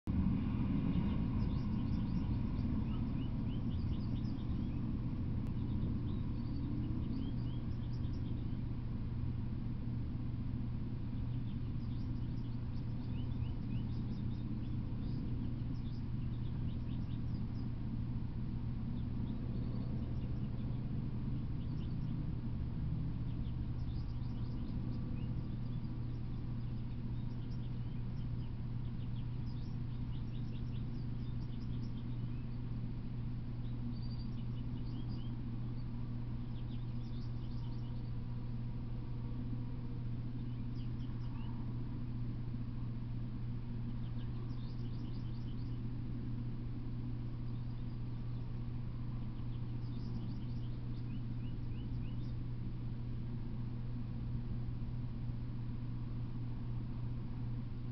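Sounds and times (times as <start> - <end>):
steady low hum: 0.0 - 57.9
small birds chirping: 0.1 - 57.9.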